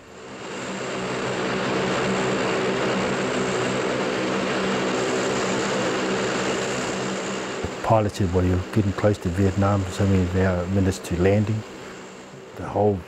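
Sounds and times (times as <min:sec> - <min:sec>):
propeller aircraft engines humming: 0:00.0 - 0:13.0
rushing air noise: 0:00.0 - 0:13.0.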